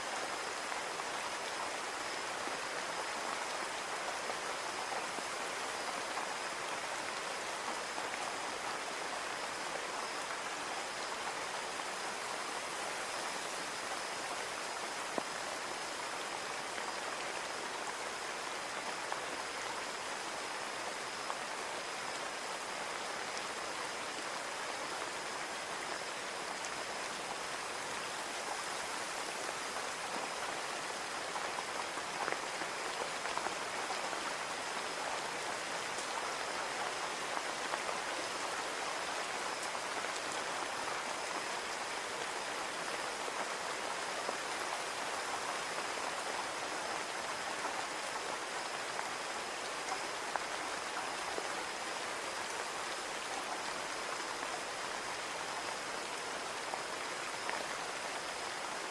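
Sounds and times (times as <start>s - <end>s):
rain on a window: 0.0s - 58.9s.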